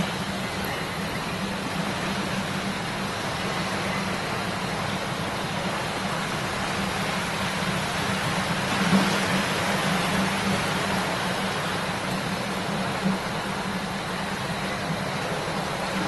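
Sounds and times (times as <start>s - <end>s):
shallow river babbling: 0.0s - 16.0s.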